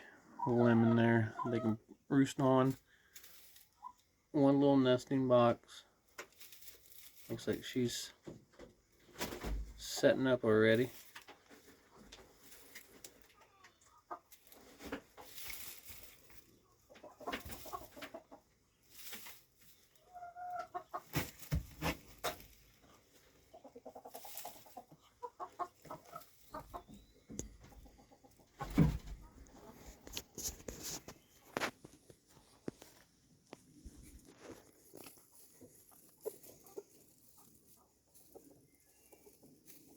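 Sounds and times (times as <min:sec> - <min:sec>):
hens clucking: 0:00.0 - 0:39.9
rustling: 0:02.6 - 0:04.0, 0:06.1 - 0:27.8, 0:28.5 - 0:39.9.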